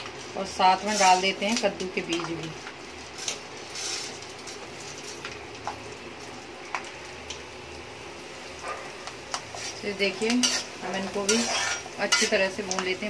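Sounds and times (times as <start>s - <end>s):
seeds sizzling in ghee: 0.0s - 13.0s.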